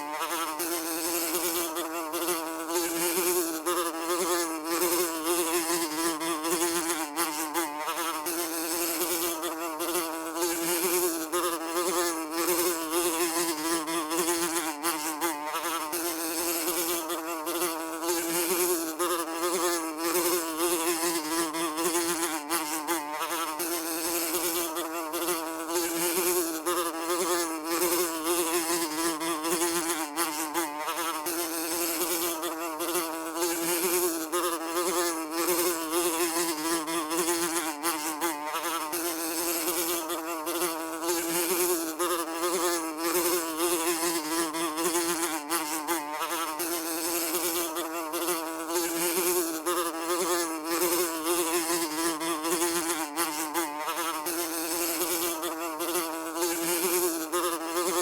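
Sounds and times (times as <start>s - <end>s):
fly buzzing: 0.0s - 58.0s.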